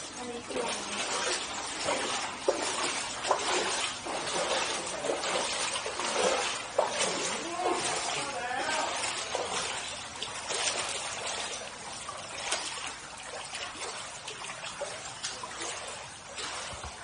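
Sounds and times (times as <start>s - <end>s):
feet splashing through water: 0.0s - 17.0s
shallow water flowing: 0.0s - 17.0s.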